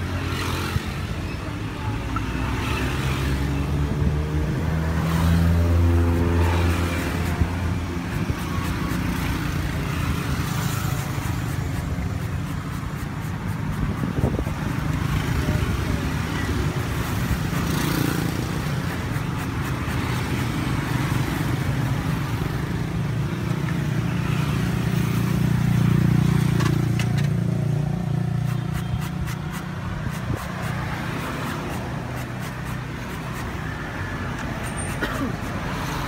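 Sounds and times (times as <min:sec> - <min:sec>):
passing vehicle engine hum: 0:00.0 - 0:36.0.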